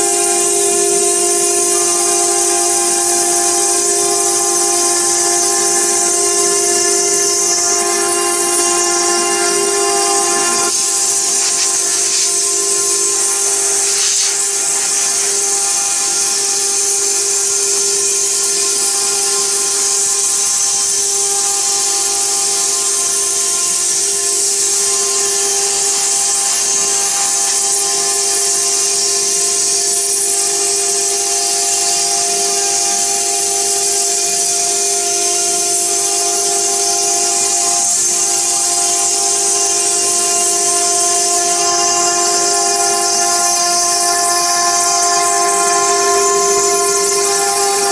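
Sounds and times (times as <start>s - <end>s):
hiss of stone cutting: 0.0s - 47.9s
router spindle high whine: 0.0s - 47.9s.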